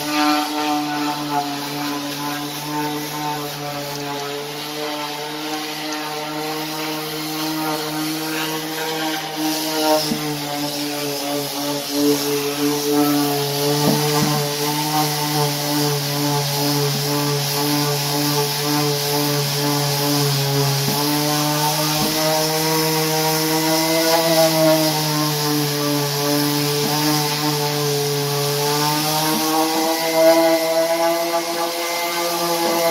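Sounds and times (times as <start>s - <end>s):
electric orbital sander running: 0.0s - 32.9s
sanding pad rubbing on wood: 0.0s - 32.9s.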